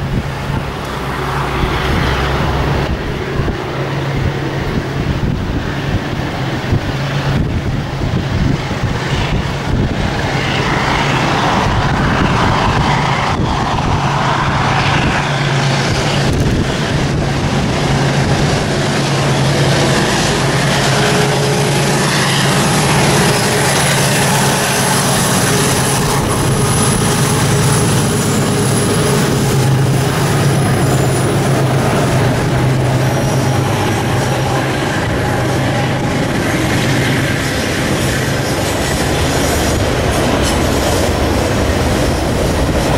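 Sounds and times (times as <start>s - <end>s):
rail and wheel noise: 0.0s - 42.9s
train engine drone: 0.0s - 42.9s.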